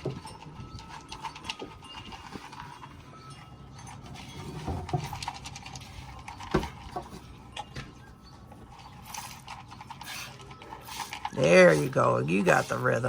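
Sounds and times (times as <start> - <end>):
knocks and clatters: 0.0 - 11.4.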